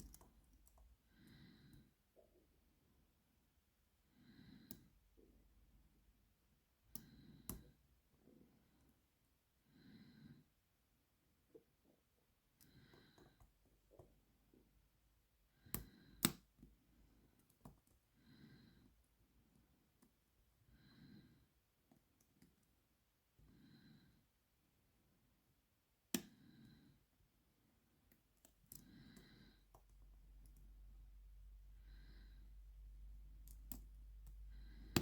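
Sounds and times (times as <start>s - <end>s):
soft breathing: 0.0s - 3.2s, 3.9s - 6.2s, 6.8s - 10.8s, 11.4s - 24.6s, 26.1s - 35.0s.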